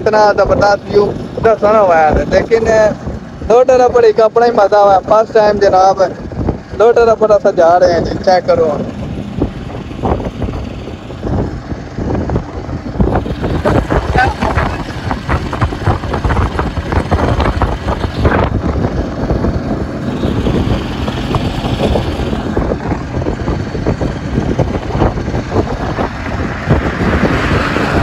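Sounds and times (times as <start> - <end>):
rickshaw engine running: 0.0 - 28.0
road noise: 0.0 - 28.0
wind buffeting microphone: 0.0 - 28.0.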